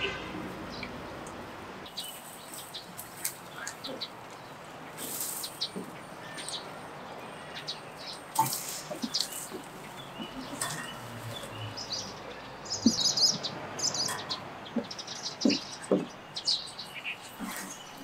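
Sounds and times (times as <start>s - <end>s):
small birds chirping: 0.7s - 18.0s.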